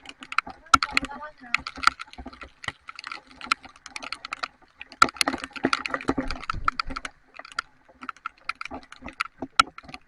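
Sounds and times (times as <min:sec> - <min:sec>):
raindrops tapping near microphone: 0:00.0 - 0:10.0.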